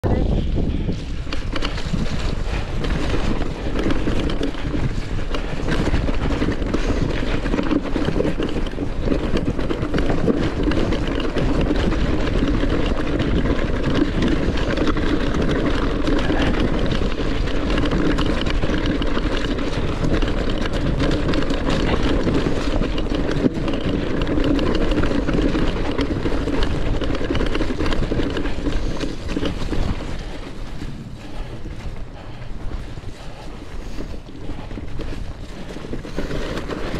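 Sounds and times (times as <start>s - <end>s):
bike rattling over bumps: 0.0s - 36.9s
bike tyres on rocky muddy track: 0.0s - 36.9s
wind rushing over microphone: 0.0s - 36.9s.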